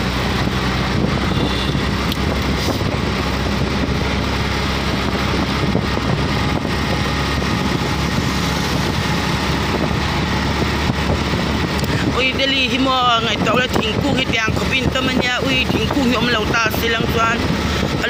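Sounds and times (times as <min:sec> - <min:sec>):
vehicle engine and road noise: 0:00.0 - 0:18.0
wind on microphone: 0:00.0 - 0:18.0.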